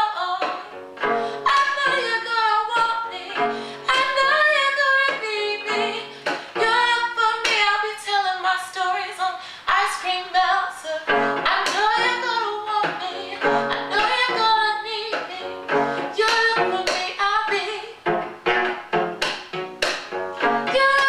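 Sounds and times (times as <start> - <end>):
cello accompaniment: 0.0 - 9.1, 9.7 - 21.0
woman singing: 0.0 - 18.0, 20.4 - 21.0.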